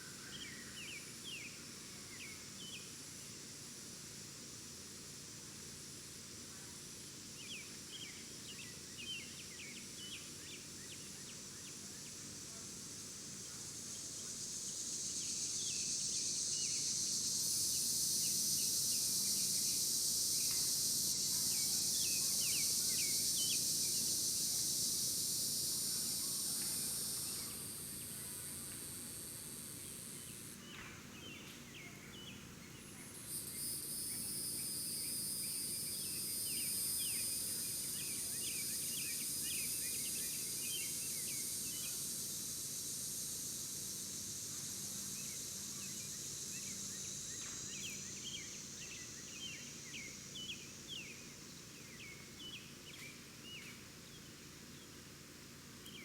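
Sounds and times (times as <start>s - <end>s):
insects buzzing high-pitched: 0.0s - 56.0s.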